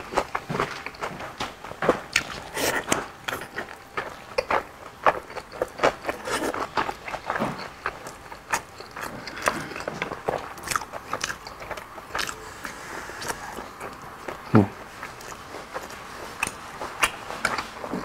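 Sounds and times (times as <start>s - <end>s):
person chewing and biting: 0.0s - 18.0s.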